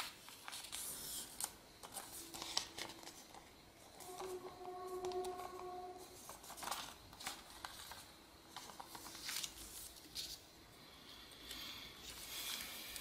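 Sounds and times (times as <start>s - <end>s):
paper rustling and crinkling: 0.0s - 10.5s.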